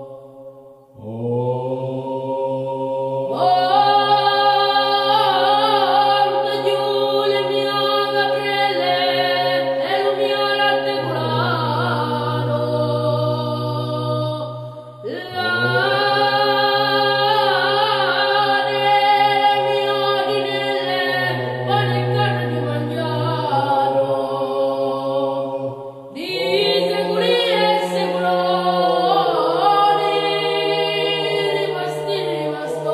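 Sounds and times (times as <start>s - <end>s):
low held vocal drone: 0.0s - 32.9s
voices chanting a slow melody: 0.0s - 32.9s.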